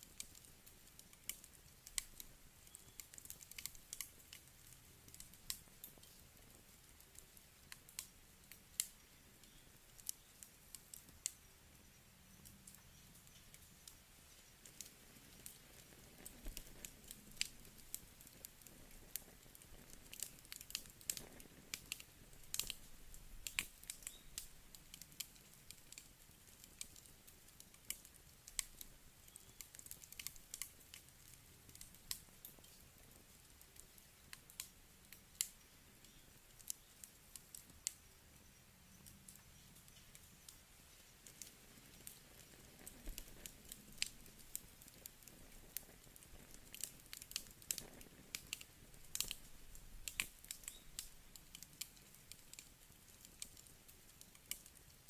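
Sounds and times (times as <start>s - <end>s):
campfire crackling: 0.0s - 55.0s
faint low hiss: 0.0s - 55.0s.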